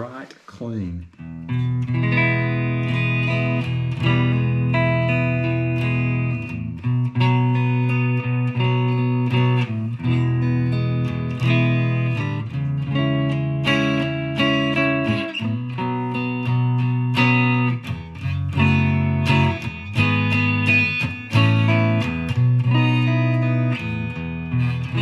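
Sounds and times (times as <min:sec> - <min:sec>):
clean electric guitar chords: 0:01.2 - 0:25.0.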